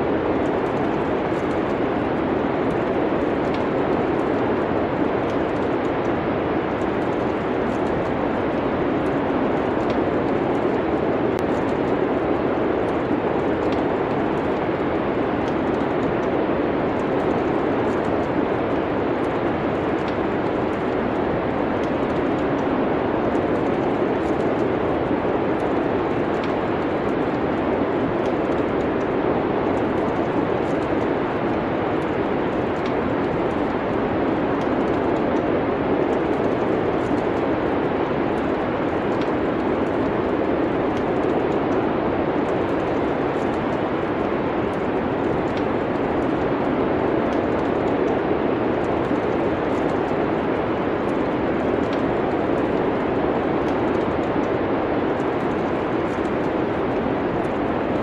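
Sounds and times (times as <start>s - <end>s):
snowstorm wind: 0.0s - 58.0s
wood fire crackling: 0.0s - 58.0s.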